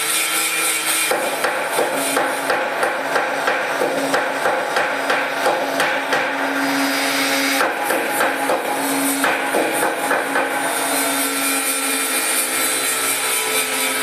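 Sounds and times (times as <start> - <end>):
hammer striking metal: 1.0 - 14.0.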